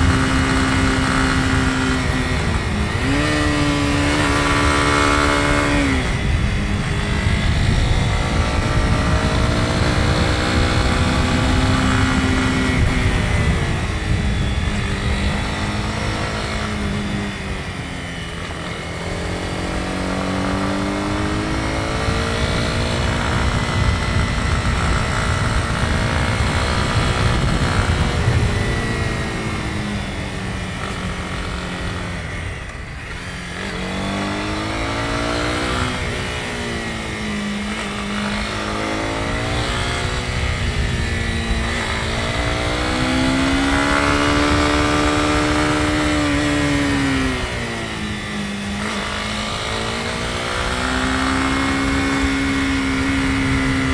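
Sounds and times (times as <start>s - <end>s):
motorcycle engine: 0.0s - 53.9s
wind noise rumbling: 0.0s - 53.9s.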